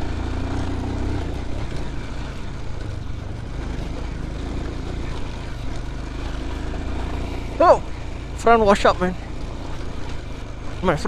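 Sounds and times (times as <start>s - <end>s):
motorcycle engine rumbling: 0.0s - 11.0s
road noise: 0.0s - 11.0s.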